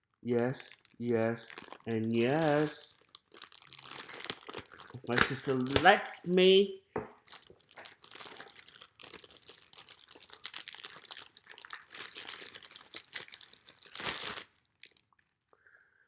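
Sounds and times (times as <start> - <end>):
packaging crinkling and rustling: 0.5 - 6.2, 7.1 - 15.1.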